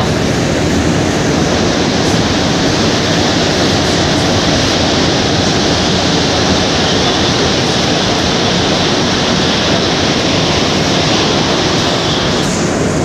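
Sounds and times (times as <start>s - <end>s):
train rushing through tunnel: 0.0s - 13.0s.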